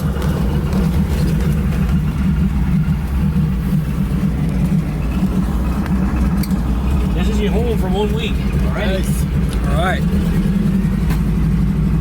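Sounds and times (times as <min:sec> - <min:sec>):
floatplane engine droning: 0:00.0 - 0:12.0.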